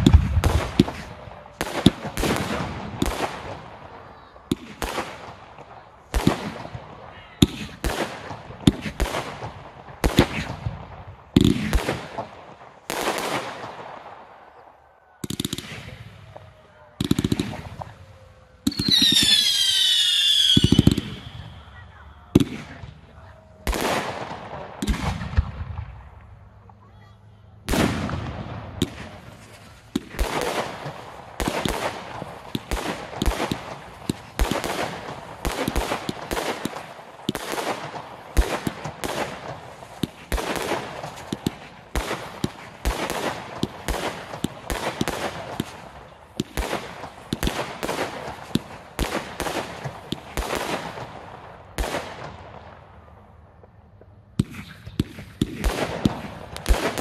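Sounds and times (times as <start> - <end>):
fireworks bursting with sharp bangs: 0.0 - 27.0, 27.6 - 57.0.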